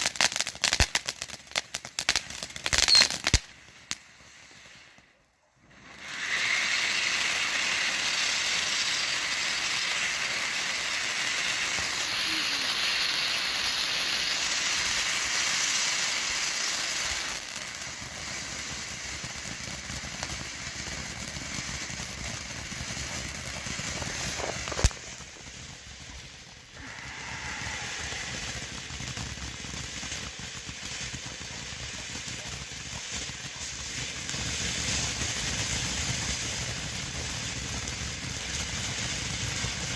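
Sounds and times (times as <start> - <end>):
fountain firework hissing: 0.0 - 39.9
sharp firework crack: 0.0 - 39.9.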